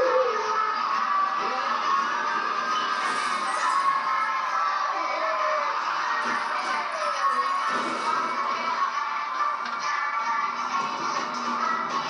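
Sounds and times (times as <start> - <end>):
film music from television speaker: 0.0 - 12.0.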